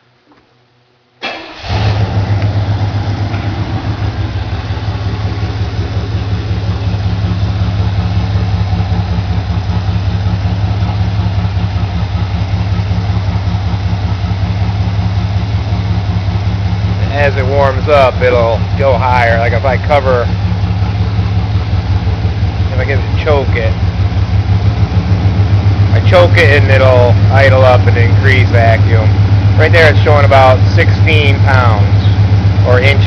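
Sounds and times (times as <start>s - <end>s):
engine idling with low rumble: 1.2s - 33.0s.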